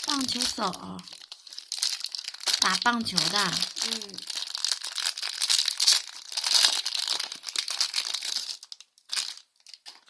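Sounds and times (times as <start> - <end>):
wrapper crinkling: 0.0 - 10.0.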